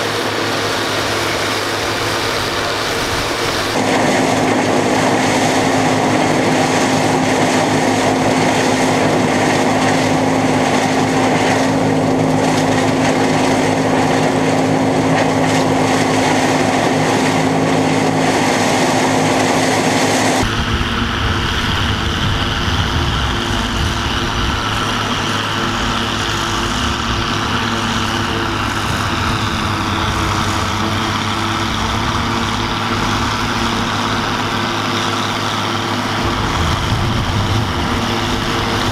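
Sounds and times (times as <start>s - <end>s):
harvester whine and rush: 0.0s - 38.9s
tractor engine under load: 0.0s - 38.9s.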